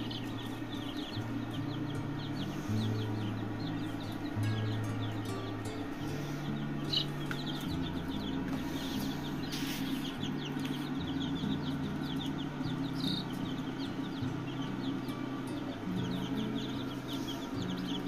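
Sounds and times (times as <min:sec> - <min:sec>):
background music: 0:00.0 - 0:18.0
chicks peeping: 0:00.0 - 0:18.0.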